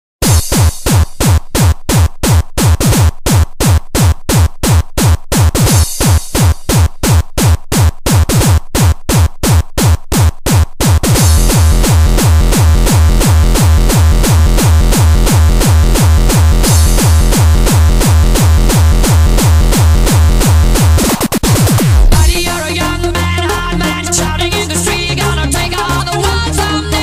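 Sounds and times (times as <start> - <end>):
hard kick drum: 0.2 - 22.8
pulsing bass line: 0.2 - 27.0.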